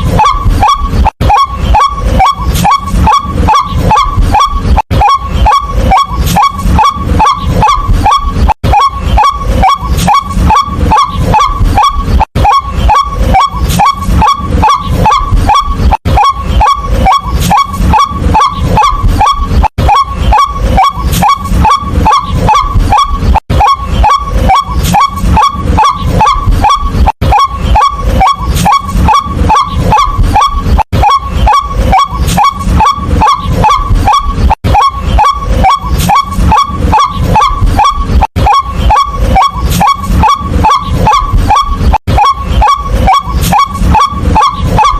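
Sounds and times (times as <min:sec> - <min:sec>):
waterhen calling harsh notes: 0:00.0 - 0:44.9.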